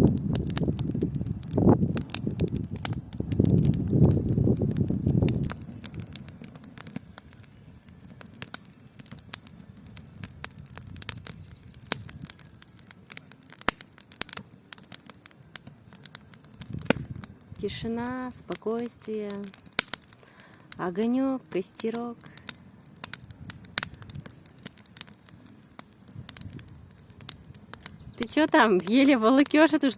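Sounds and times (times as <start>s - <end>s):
campfire crackling and popping: 0.0s - 29.9s.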